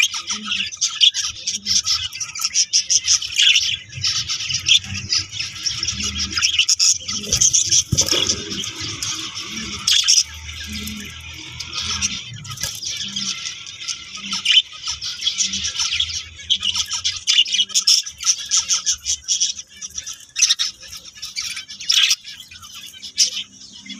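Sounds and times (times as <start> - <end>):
budgerigars chattering: 0.0 - 23.9.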